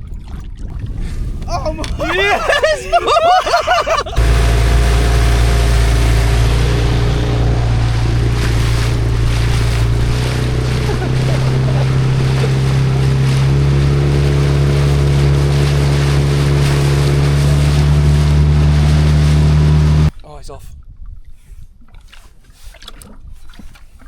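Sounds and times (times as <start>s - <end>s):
wind: 0.0s - 24.0s
water rushing: 0.7s - 20.1s
outboard motor running: 0.8s - 20.1s.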